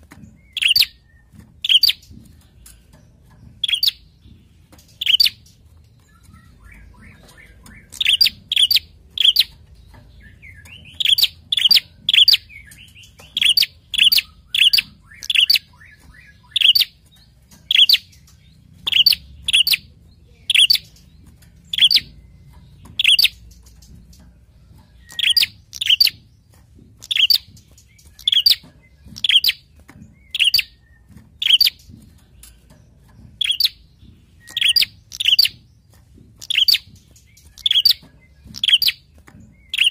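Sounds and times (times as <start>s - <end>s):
bird chirping sharply: 0.0s - 24.2s, 24.8s - 39.9s.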